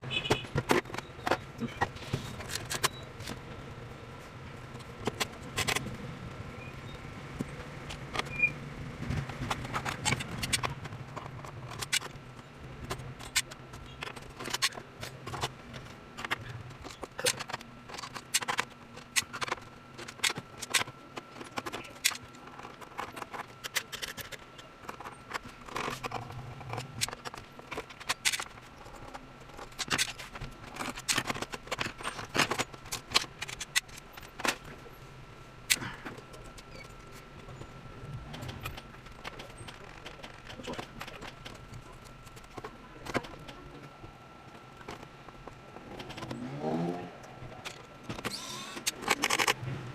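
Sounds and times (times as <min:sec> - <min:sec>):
faint steady hum: 0:00.0 - 0:49.9
plastic and metal parts clicking: 0:00.2 - 0:03.4, 0:07.4 - 0:34.8, 0:38.3 - 0:46.4, 0:47.2 - 0:49.6.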